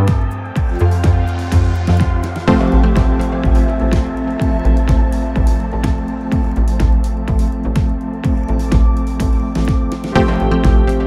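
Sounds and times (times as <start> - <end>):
electronic music with kick drum: 0.0 - 11.0
sustained bass notes: 0.0 - 11.0.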